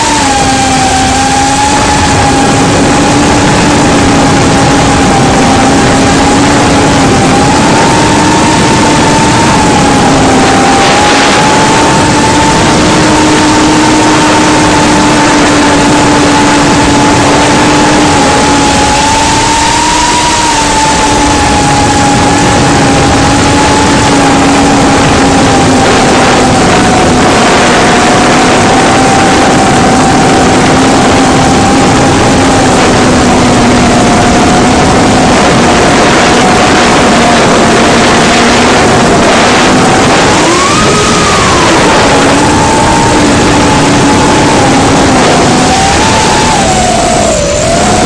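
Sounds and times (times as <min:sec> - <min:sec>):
drone motor whine: 0:00.0 - 0:48.0
loud rushing noise: 0:00.0 - 0:48.0.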